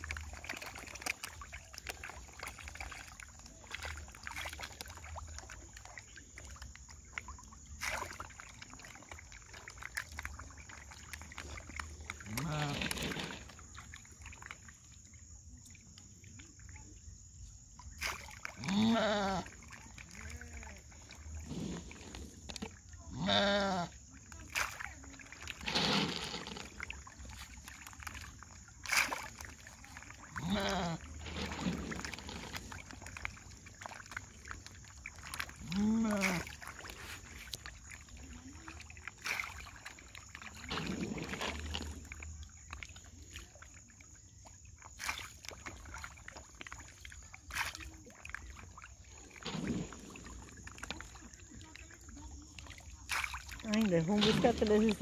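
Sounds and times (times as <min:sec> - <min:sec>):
fish splashing at water surface: 0:00.0 - 0:55.0.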